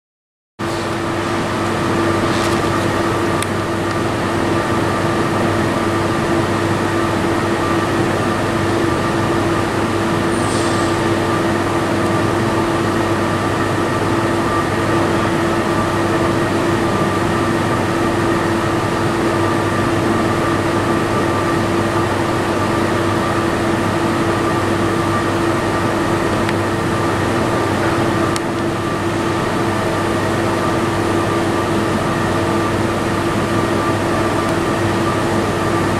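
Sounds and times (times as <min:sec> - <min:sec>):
jet engines idling: 0:00.6 - 0:35.9.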